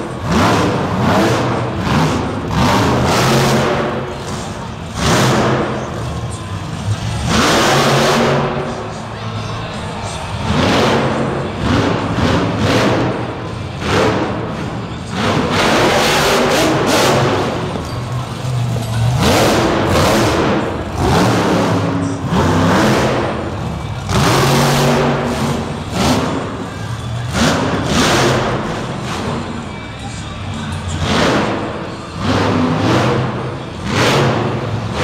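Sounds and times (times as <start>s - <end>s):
truck engine revving hard: 0.0s - 8.9s, 10.1s - 29.8s, 30.8s - 35.0s
music playing: 0.0s - 35.0s.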